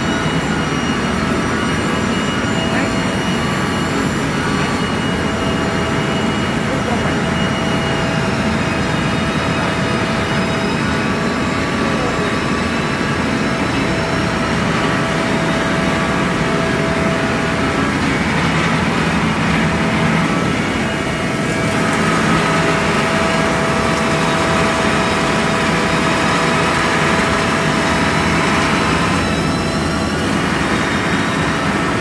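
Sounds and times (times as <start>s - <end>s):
loud steady machinery noise: 0.0s - 32.0s
steady machine tones: 0.0s - 32.0s.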